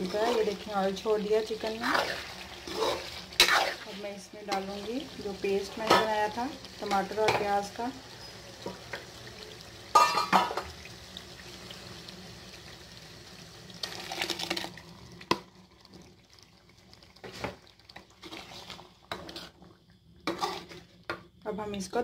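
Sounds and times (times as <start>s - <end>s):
hot oil sizzling: 0.0s - 19.6s, 20.2s - 21.0s.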